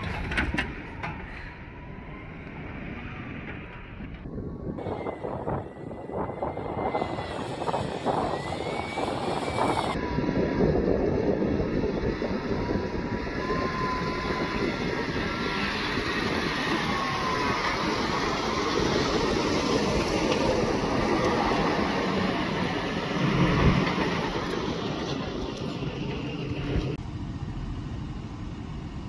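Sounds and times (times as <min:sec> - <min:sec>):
off-road vehicle engines crawling: 0:00.0 - 0:29.0.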